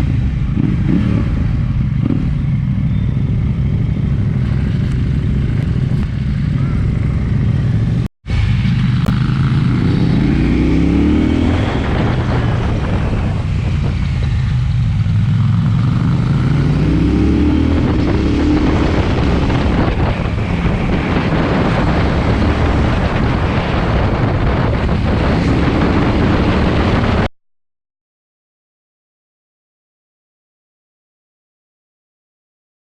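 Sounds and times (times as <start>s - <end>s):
motorcycle engine accelerating: 0.0s - 27.3s
wind and road noise: 0.0s - 27.3s.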